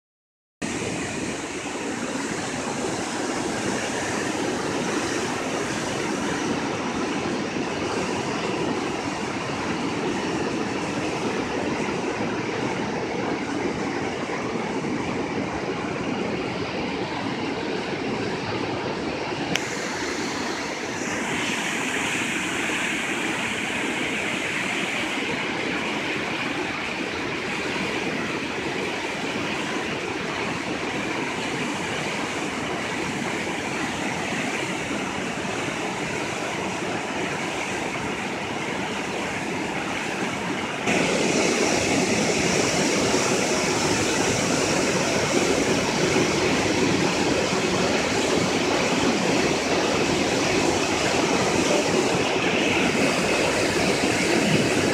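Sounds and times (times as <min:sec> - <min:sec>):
water rushing from flood gate: 0:00.6 - 0:54.9.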